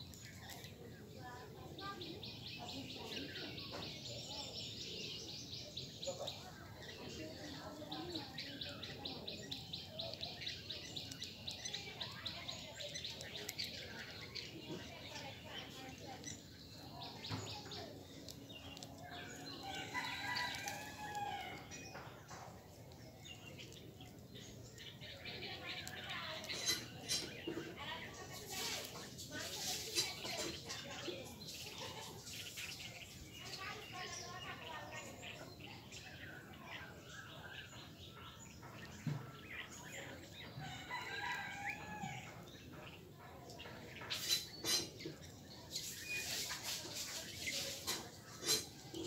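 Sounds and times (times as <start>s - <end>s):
birds chirping and calling: 0.0s - 49.0s.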